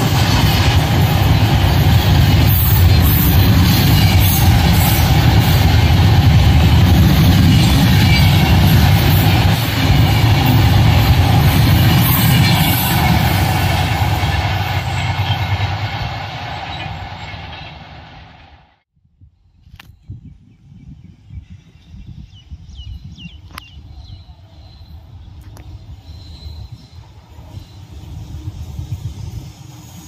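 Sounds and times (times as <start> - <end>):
train wheels rumbling on rails: 0.0 - 18.8, 23.6 - 30.0.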